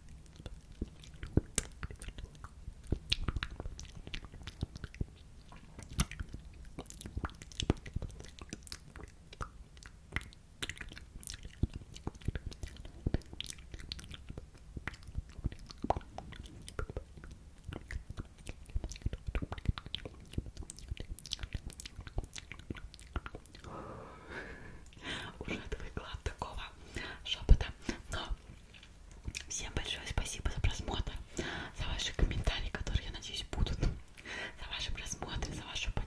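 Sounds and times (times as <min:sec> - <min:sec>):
lip and tongue clicks: 0:00.0 - 0:23.7, 0:24.8 - 0:35.6.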